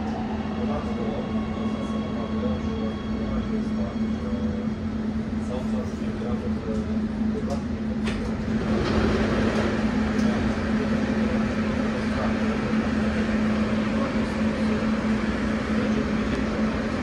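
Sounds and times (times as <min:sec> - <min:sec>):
train equipment humming: 0:00.0 - 0:17.0.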